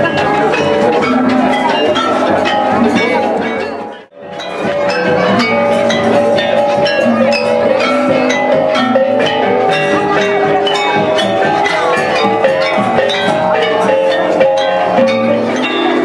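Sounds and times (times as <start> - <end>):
gamelan metallophones and gongs: 0.0 - 16.0.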